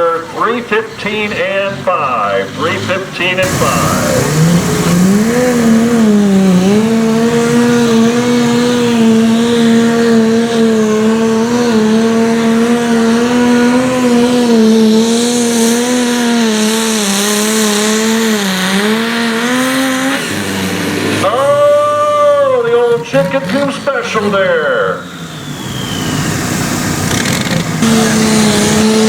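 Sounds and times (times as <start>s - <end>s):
pulling tractor engine at full throttle: 0.0s - 29.0s.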